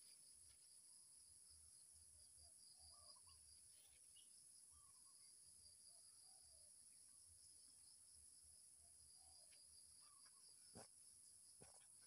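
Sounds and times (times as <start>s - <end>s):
high-pitched insect chorus: 0.0s - 12.0s
soft bird chirps: 0.0s - 12.0s.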